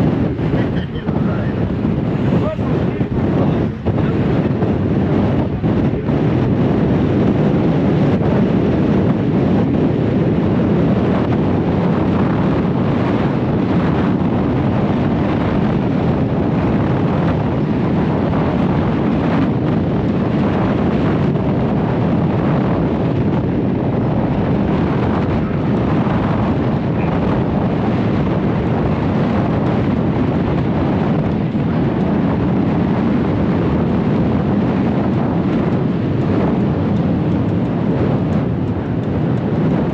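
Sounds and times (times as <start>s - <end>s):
choppy water: 0.0s - 39.9s
ship low rumble: 0.0s - 39.9s
wind buffeting microphone: 0.0s - 39.9s.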